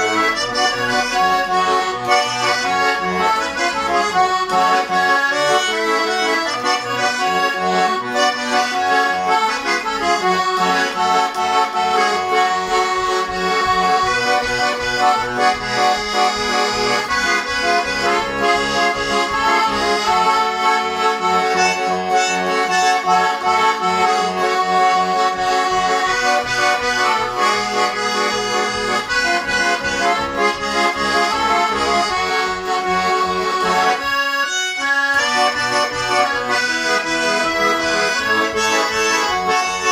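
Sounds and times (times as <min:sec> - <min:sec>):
button accordion playing: 0:00.0 - 0:39.9.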